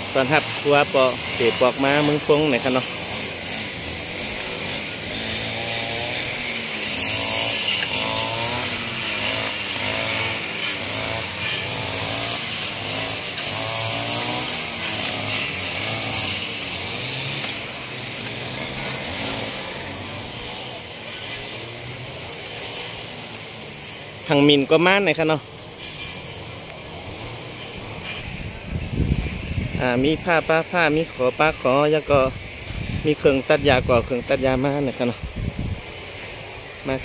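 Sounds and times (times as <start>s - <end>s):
brush cutter engine running: 0.0s - 37.0s.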